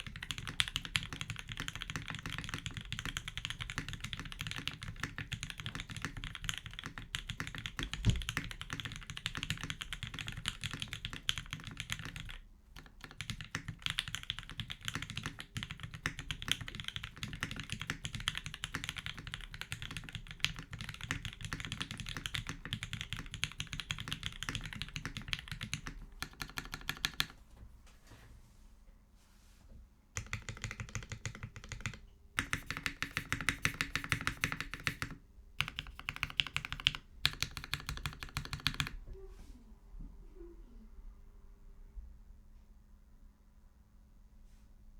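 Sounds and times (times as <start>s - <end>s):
mechanical keyboard typing: 0.0s - 27.4s, 30.2s - 39.0s.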